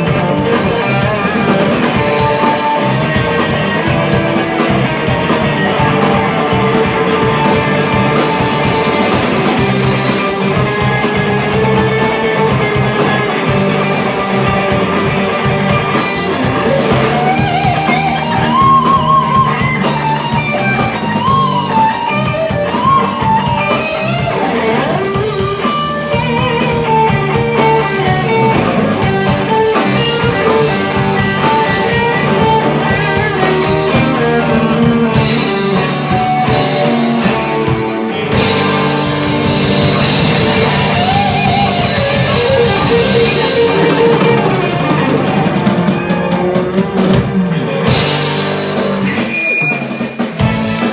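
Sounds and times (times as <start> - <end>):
lead guitar bending notes: 0.0 - 50.9
live rock band playing: 0.0 - 50.9.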